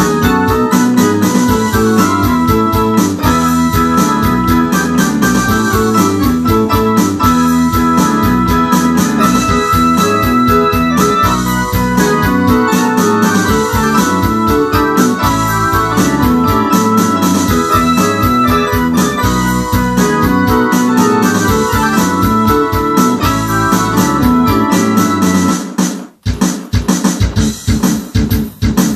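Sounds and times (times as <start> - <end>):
keyboard playing rock: 0.0 - 28.9.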